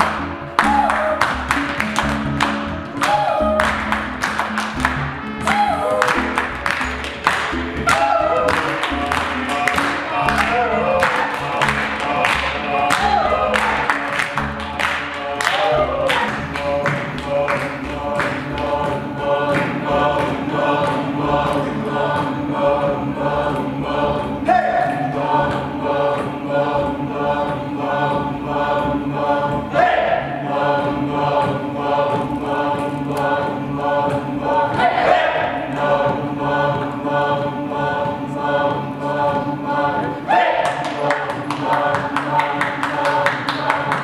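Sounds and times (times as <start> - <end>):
steady rhythmic beat: 0.0 - 44.0
voices chanting held notes: 0.0 - 44.0.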